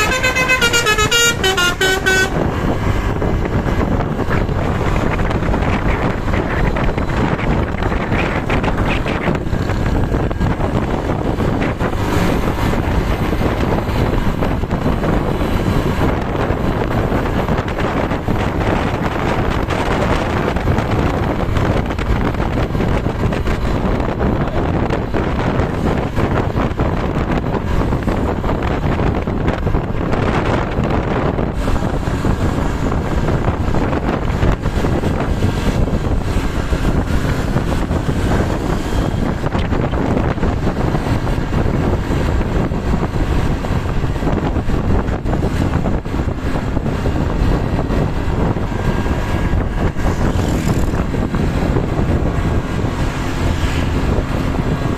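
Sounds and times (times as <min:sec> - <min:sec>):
passing vehicles rumbling: 0:00.0 - 0:54.9
wind buffeting microphone: 0:00.0 - 0:54.9.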